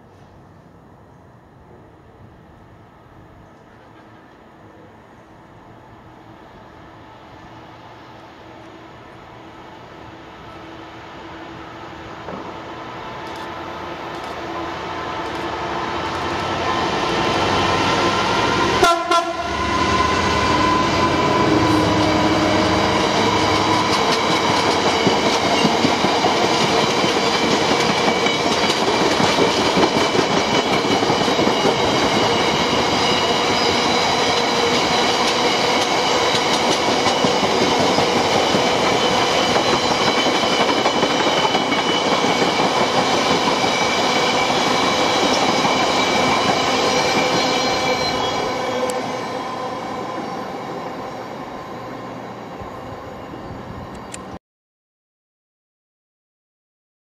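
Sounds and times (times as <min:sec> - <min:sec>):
diesel locomotive passing: 0:00.0 - 0:54.4.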